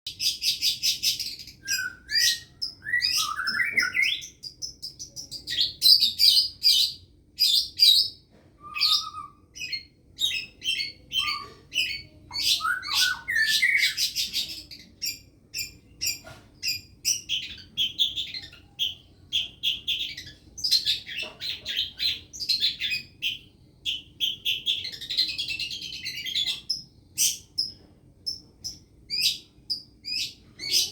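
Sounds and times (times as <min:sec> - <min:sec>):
bird harsh high chirps: 0:00.1 - 0:30.9.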